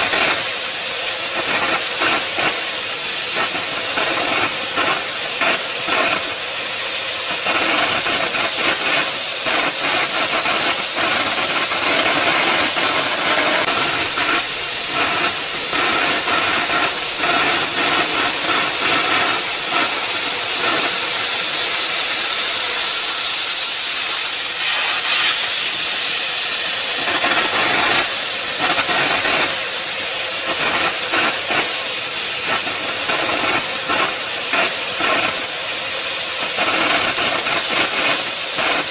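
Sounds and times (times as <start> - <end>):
cutting torch hissing: 0.0 - 38.9.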